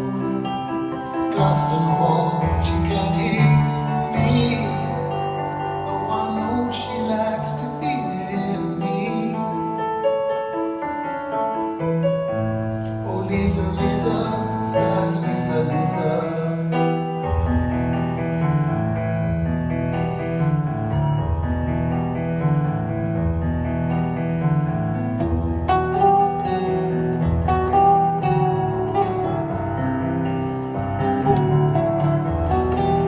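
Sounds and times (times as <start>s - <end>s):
piano chords: 0.0s - 33.0s
plucked guitar: 0.0s - 33.0s.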